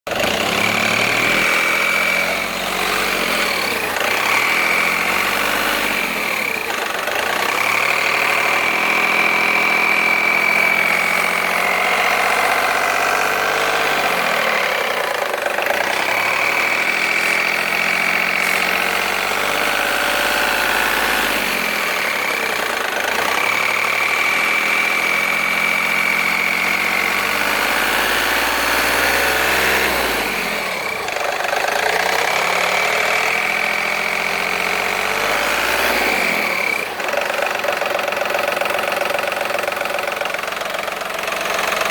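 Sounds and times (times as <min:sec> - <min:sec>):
car engine revving: 0:00.1 - 0:41.9.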